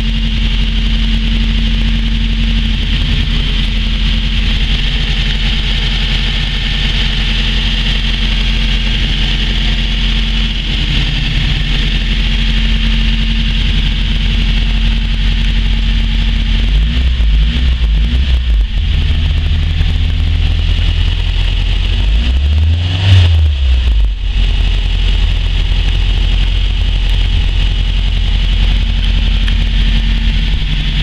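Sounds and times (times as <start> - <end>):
car engine idling and revving: 0.0 - 31.0
engine throttle blips: 0.0 - 31.0.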